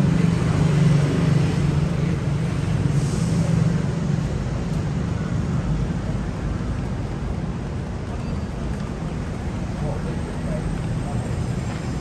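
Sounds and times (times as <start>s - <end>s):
passing traffic: 0.0s - 12.0s.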